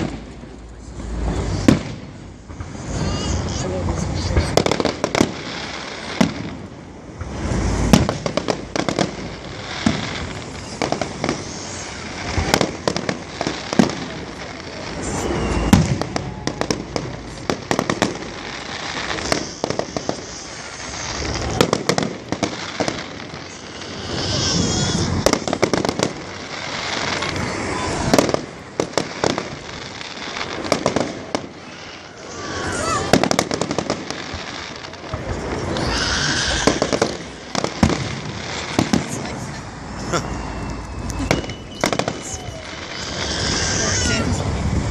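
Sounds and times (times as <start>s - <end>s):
firework bangs and crackling: 0.0s - 44.9s
warbling firework whistle: 7.3s - 44.5s.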